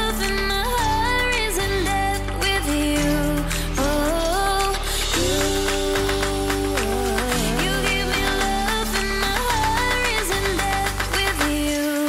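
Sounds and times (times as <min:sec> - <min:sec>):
steady bass line: 0:00.0 - 0:11.8.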